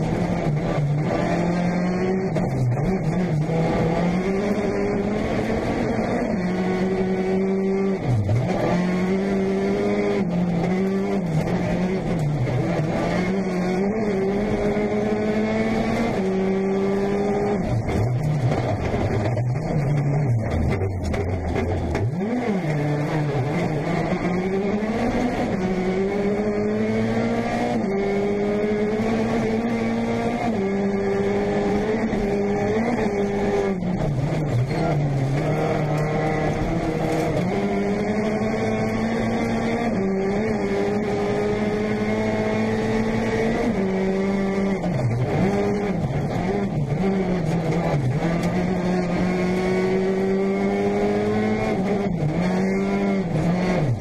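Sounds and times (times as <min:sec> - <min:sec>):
rally car engine revving: 0:00.0 - 0:54.0
tyre and road noise: 0:00.0 - 0:54.0.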